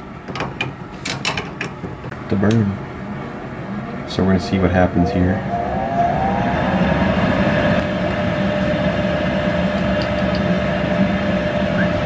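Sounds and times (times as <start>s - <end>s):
gas water heater rumbling: 0.0s - 12.0s
water heater whine: 0.0s - 12.0s.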